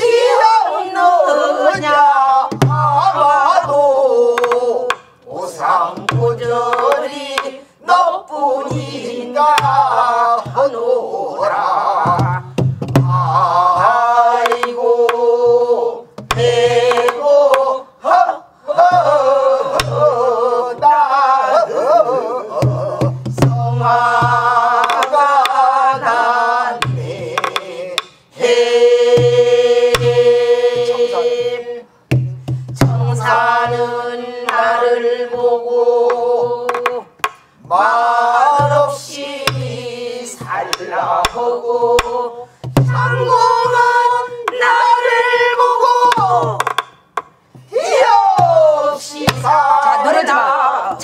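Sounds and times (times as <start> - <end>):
group singing folk song: 0.0 - 51.0
barrel drums beaten with stick: 1.8 - 7.6, 8.6 - 10.8, 12.0 - 17.7, 18.9 - 21.1, 22.5 - 50.2.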